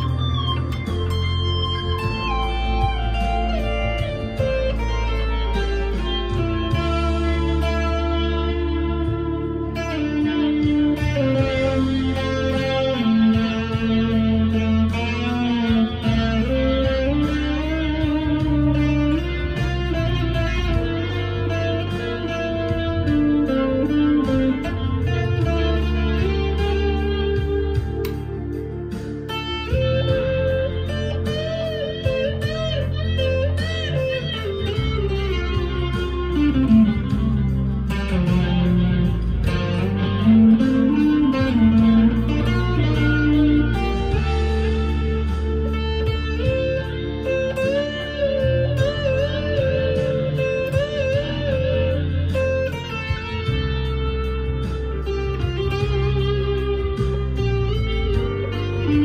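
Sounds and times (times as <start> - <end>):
distorted electric guitar lead: 0.0 - 59.0.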